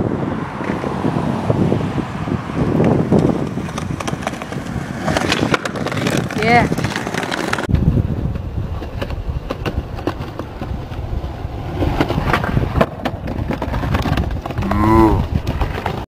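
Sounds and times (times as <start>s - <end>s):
skateboard wheels rolling on paving: 0.0s - 16.0s
skateboard tail clack: 2.7s - 16.0s
skateboard landing: 2.8s - 16.0s.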